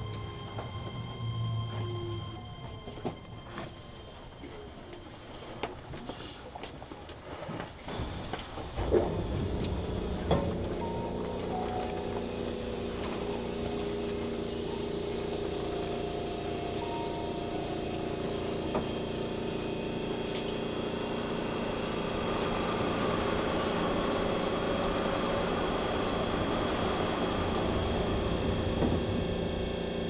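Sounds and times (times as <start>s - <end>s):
traction motor whine: 0.0s - 5.8s, 7.9s - 30.0s
train wheel and motor rumble: 0.0s - 30.0s.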